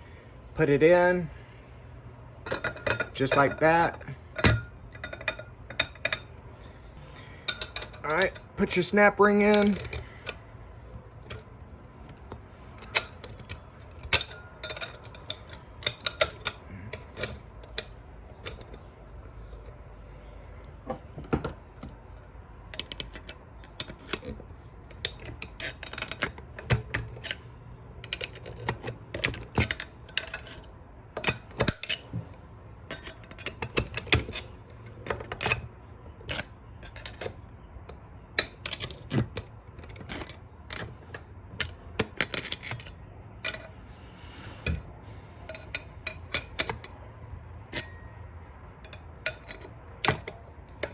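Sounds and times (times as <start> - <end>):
metallic clicks and scrapes: 0.6 - 50.9.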